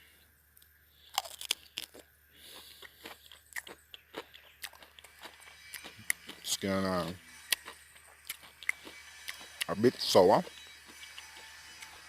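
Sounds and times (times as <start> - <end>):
crisp crunches of biting fruit: 1.0 - 12.0.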